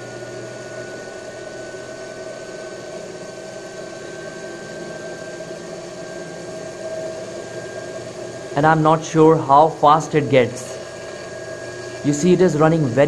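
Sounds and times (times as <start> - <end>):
electric motor whirring: 0.0 - 13.0.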